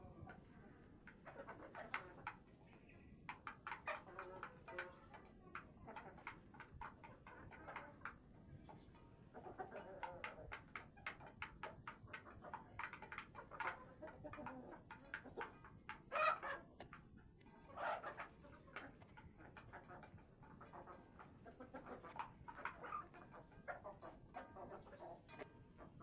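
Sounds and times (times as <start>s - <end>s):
hens clucking softly: 0.0s - 26.0s
beaks tapping on feed: 0.4s - 25.9s.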